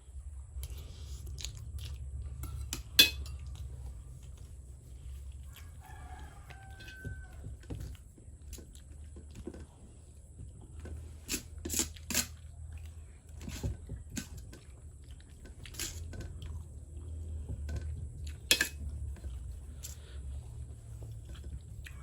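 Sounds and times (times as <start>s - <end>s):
steady low hum: 0.0s - 22.0s
chewing noodles: 0.6s - 22.0s.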